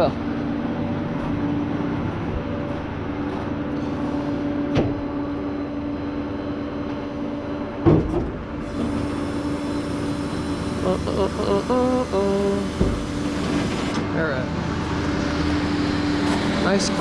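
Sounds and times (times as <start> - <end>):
truck engine humming: 0.0 - 7.6, 8.5 - 17.0.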